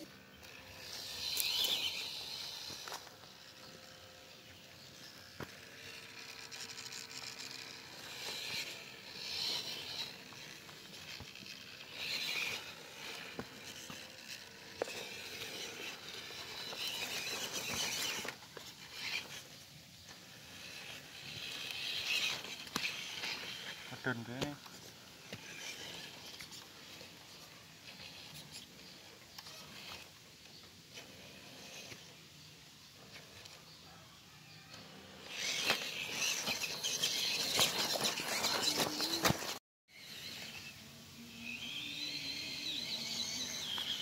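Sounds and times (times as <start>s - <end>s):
electric motor and gears whining: 0.0s - 44.0s.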